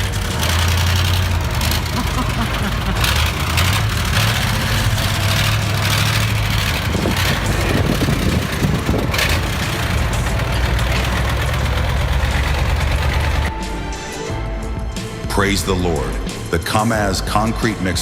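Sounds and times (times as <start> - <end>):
truck engine droning: 0.0 - 17.8.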